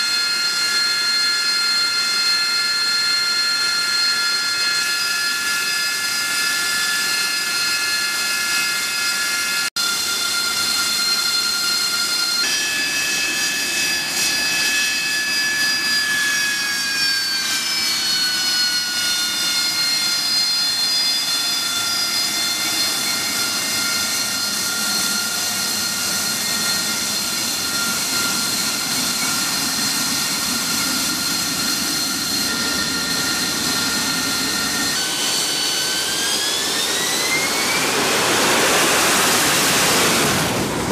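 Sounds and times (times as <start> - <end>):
jet engine whine: 0.0 - 40.9
jet engine rushing noise: 4.7 - 40.9.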